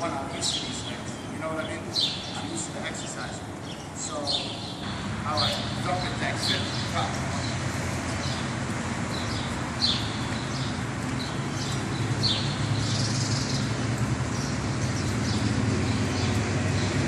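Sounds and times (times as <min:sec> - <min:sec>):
steady low hum: 0:00.0 - 0:17.0
small birds chirping: 0:00.1 - 0:17.0.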